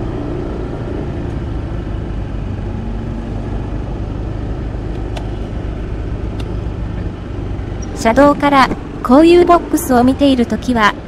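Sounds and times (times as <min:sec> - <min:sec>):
motorcycle engine hum: 0:00.0 - 0:11.0
road noise: 0:00.0 - 0:11.0.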